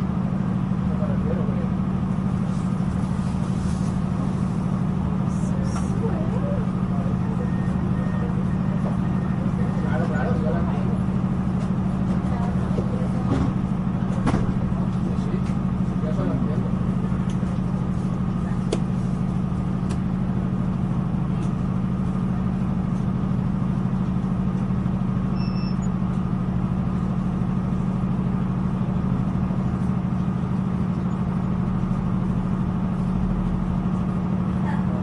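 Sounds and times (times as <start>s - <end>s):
train engine drone: 0.0s - 35.0s.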